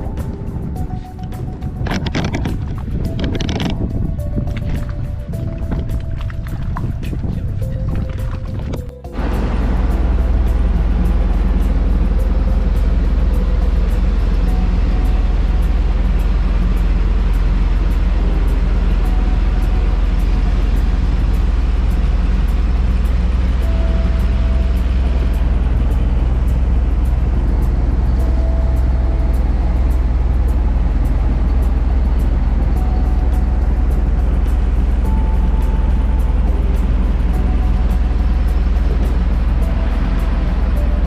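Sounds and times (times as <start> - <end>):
background music: 0.0 - 41.0
boat engine rumbling: 0.0 - 41.0.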